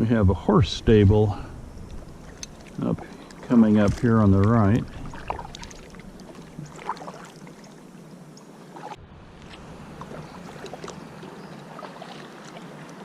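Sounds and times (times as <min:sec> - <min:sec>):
paddle splashes: 0:01.9 - 0:13.0
water splashing and dripping: 0:01.9 - 0:13.0.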